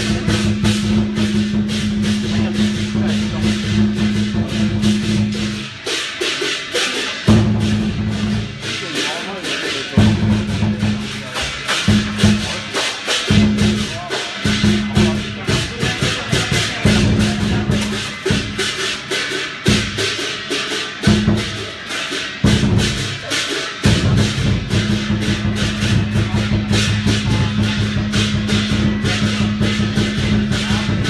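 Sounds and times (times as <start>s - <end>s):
cymbals clashing: 0.0s - 31.0s
large drum beaten in fast runs: 0.0s - 31.0s.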